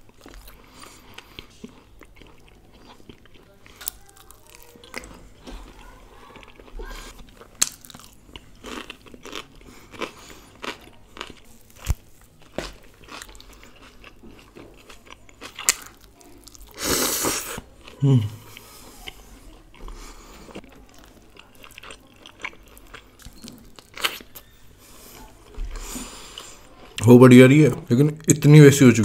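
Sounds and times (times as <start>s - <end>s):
close-miked chewing: 0.0s - 27.0s.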